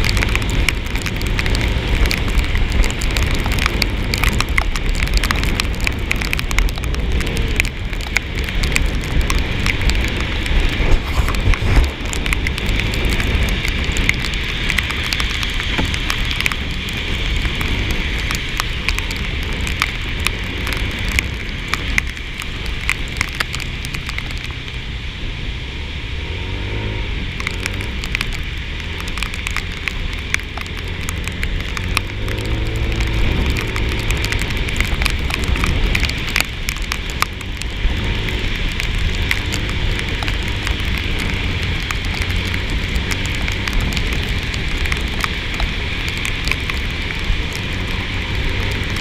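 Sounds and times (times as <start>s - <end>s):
rain spattering: 0.0s - 49.0s
wind rumble: 0.0s - 49.0s.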